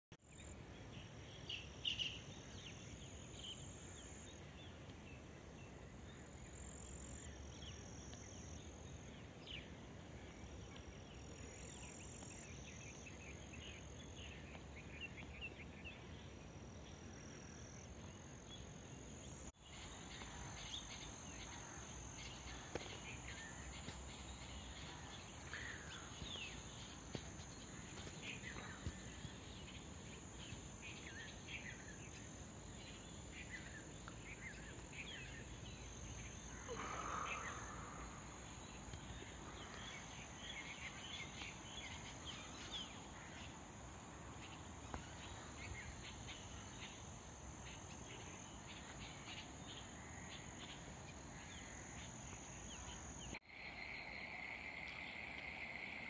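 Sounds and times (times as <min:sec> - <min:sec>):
low background hiss: 0:00.3 - 0:56.0
crickets trilling: 0:06.0 - 0:56.0.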